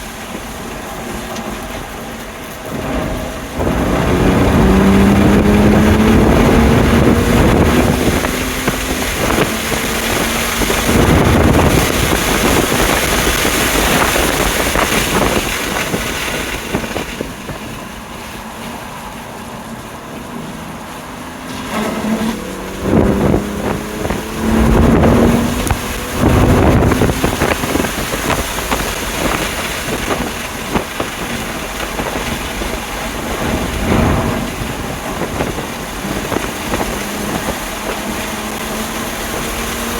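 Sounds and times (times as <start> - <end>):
car engine accelerating: 0.0 - 39.9
wind and road noise: 0.0 - 39.9.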